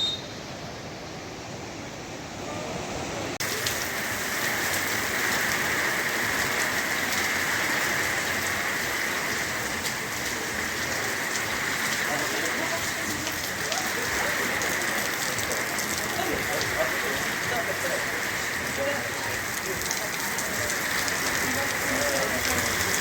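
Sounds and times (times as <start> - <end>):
rain falling: 0.0 - 23.0
raindrops ticking: 3.4 - 23.0.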